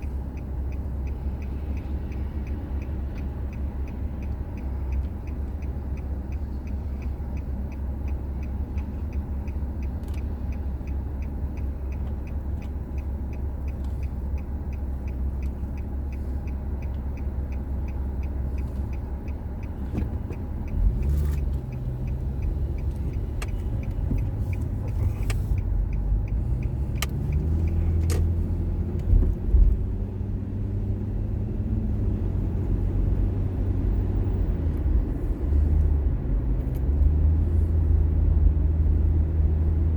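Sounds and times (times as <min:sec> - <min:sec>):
turn signal ticking: 0:00.0 - 0:39.9
car cabin rumble: 0:04.3 - 0:39.9.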